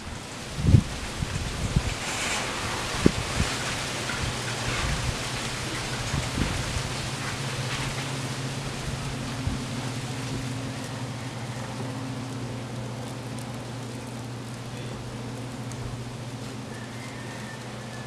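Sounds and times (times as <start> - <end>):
fire crackling: 0.0 - 18.0
flames hissing: 0.0 - 18.0.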